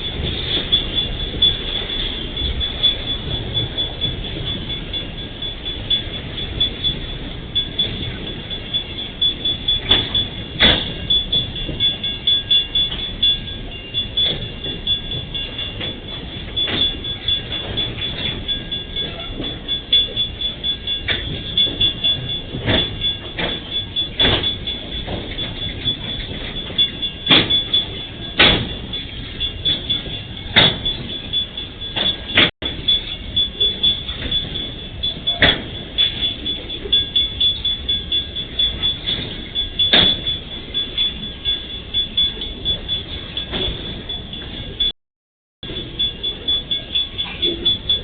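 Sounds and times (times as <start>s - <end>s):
freight train wheels clanking: 0.0s - 44.9s, 45.6s - 48.0s
steady high tone: 0.0s - 45.0s, 45.6s - 48.0s.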